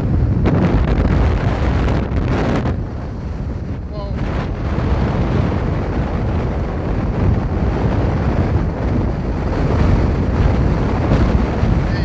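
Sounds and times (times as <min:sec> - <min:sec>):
heavy surf breaking: 0:00.0 - 0:12.0
wind buffeting microphone: 0:00.0 - 0:12.0.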